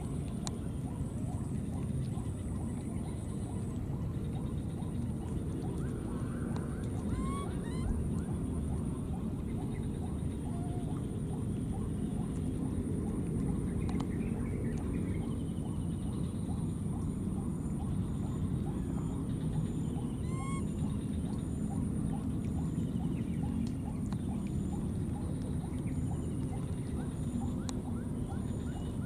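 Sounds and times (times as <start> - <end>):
constant high whine: 0.0 - 29.0
steady low rumble: 0.0 - 29.0.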